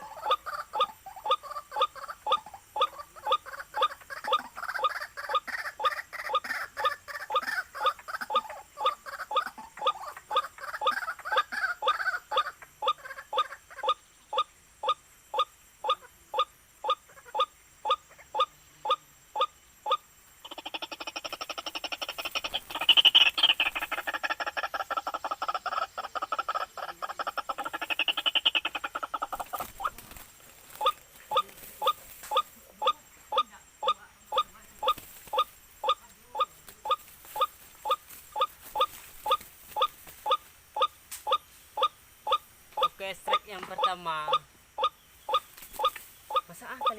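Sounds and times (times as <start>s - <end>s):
waterhen calling: 0.0s - 46.9s.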